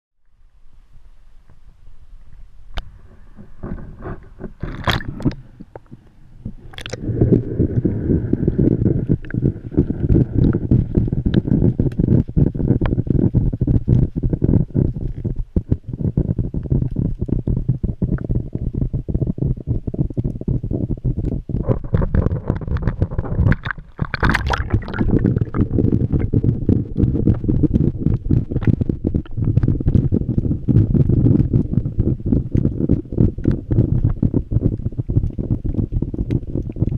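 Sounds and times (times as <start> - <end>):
muffled underwater rumble: 0.3 - 36.9
splashing or bubbling: 2.8 - 36.9.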